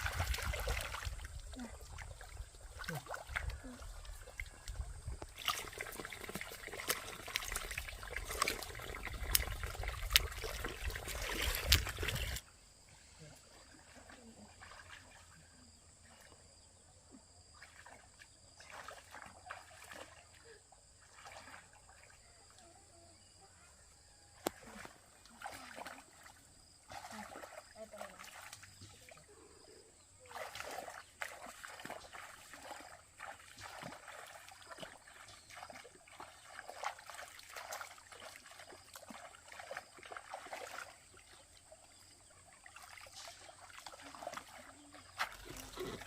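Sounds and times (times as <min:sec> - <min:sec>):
water trickling and splashing: 0:00.0 - 0:23.5, 0:24.1 - 0:46.0.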